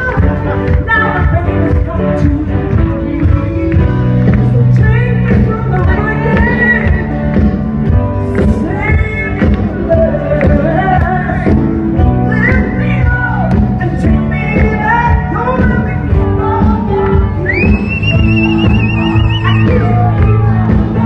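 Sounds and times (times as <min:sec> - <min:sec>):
loud music with singing: 0:00.0 - 0:21.0.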